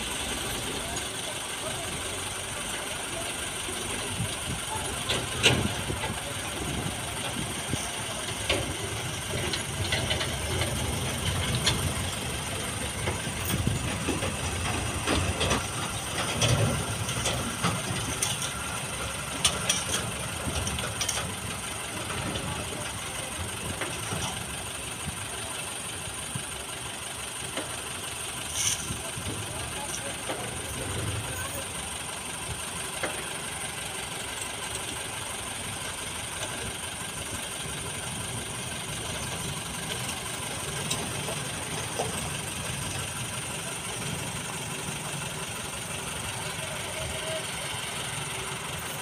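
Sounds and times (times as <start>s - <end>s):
distant diesel engine rumbling: 0.0s - 49.0s.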